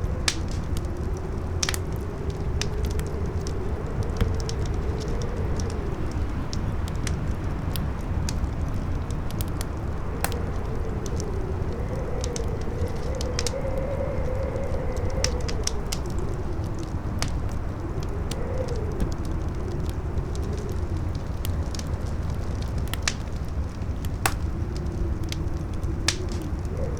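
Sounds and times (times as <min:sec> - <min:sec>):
campfire crackling and popping: 0:00.0 - 0:26.9
strong wind howling: 0:00.0 - 0:26.9.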